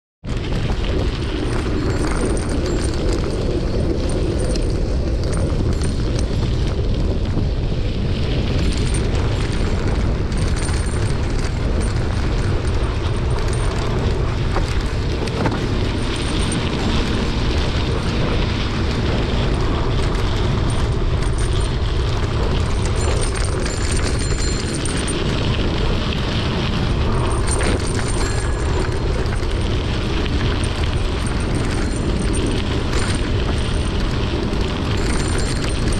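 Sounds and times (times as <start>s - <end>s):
wind buffeting microphone: 0.2s - 35.9s.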